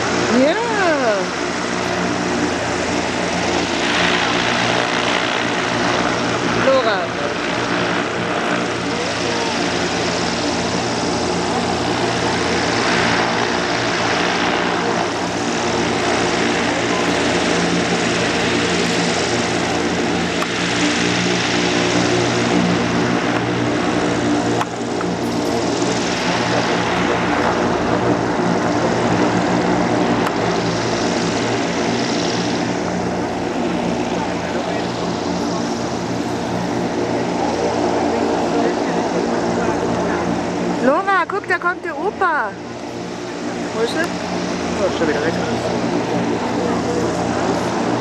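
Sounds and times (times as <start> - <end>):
airship propeller engines droning: 0.0 - 48.0.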